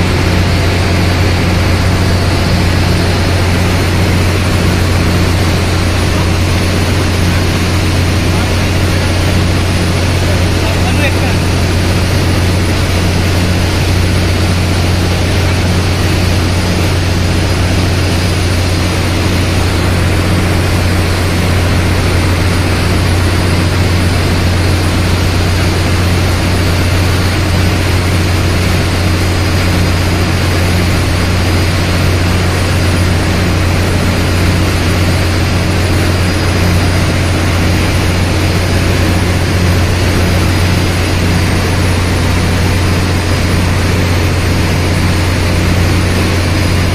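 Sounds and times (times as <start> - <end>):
engine room machinery drone: 0.0 - 46.9.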